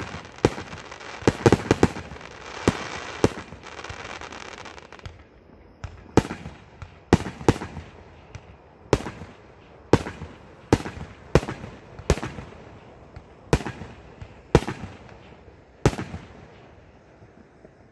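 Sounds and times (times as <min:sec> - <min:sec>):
fireworks bangs with echo: 0:00.0 - 0:17.9.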